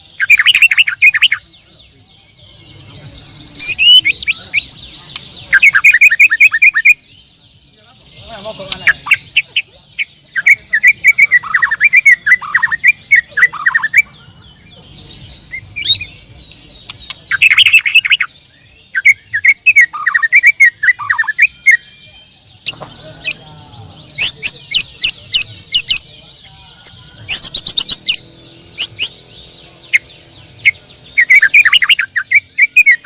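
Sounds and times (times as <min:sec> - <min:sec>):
canaries singing: 0:00.0 - 0:33.0.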